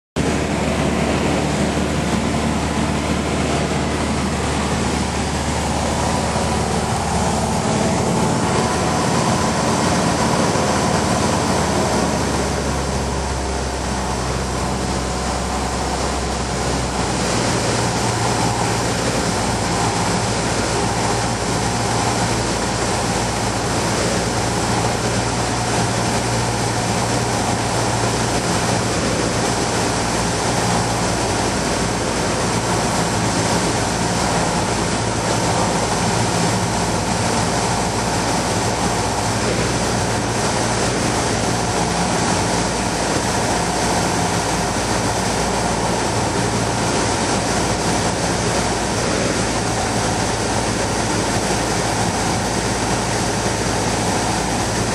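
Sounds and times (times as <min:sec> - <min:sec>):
light aircraft engine droning: 0:00.2 - 0:54.9.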